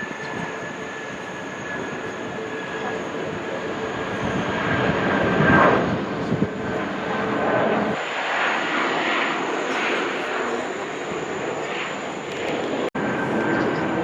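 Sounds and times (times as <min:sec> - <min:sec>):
jet engines whining and rushing: 0:00.0 - 0:14.0.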